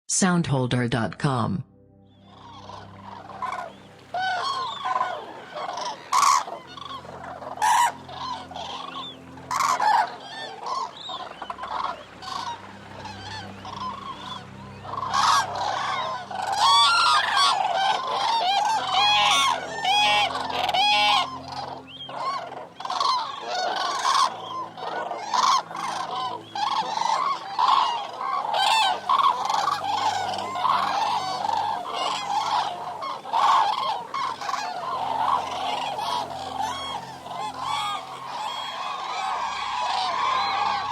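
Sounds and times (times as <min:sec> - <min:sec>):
cranes trumpeting calls: 0:02.1 - 0:40.9.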